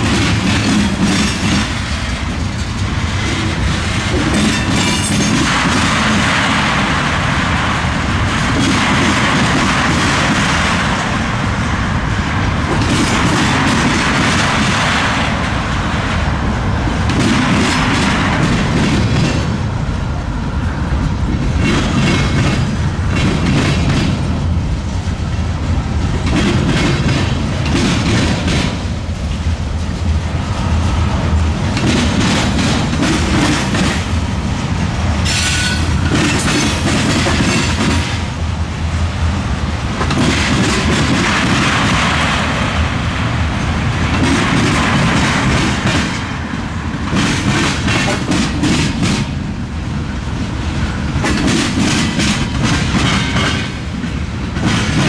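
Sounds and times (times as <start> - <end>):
train wheels clattering over rail joints: 0.0 - 55.0.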